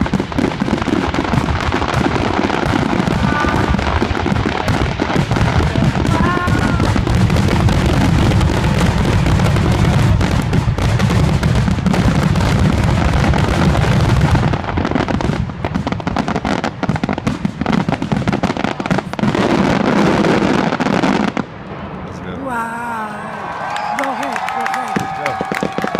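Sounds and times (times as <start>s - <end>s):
fireworks booming and crackling: 0.0s - 25.9s.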